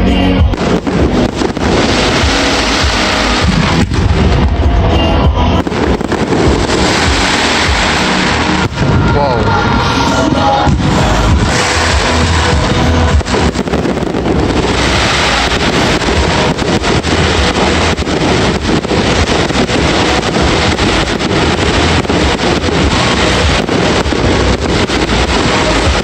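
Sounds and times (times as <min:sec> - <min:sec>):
fireworks bangs: 0:00.4 - 0:26.0
fireworks crackle and rumble: 0:00.4 - 0:26.0.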